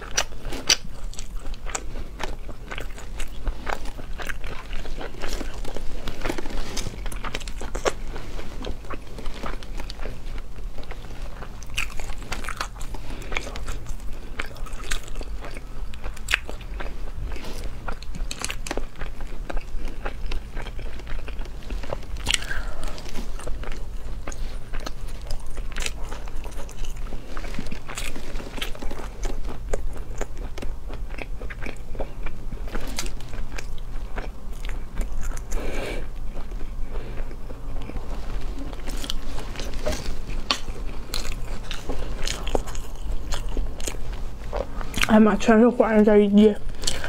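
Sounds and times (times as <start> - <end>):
chewing and biting: 0.0 - 45.2.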